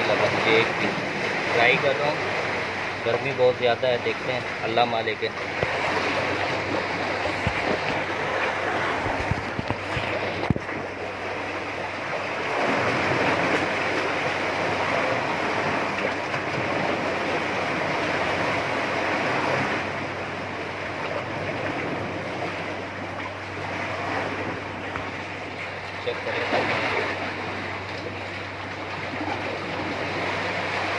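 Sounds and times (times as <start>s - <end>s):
seawater washing and surging: 0.0s - 30.9s.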